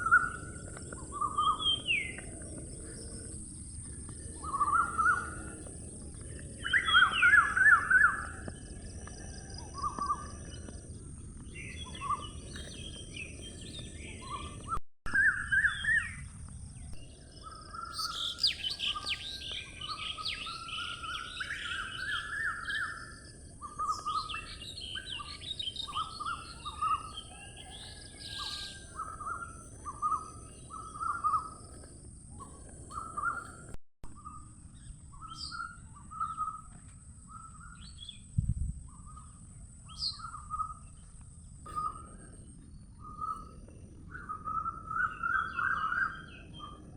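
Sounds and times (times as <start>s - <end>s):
songbirds chirping and singing: 0.0s - 46.9s.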